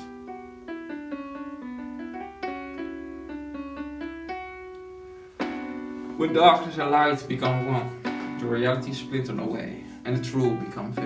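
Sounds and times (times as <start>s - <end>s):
piano playing single notes: 0.0s - 11.0s.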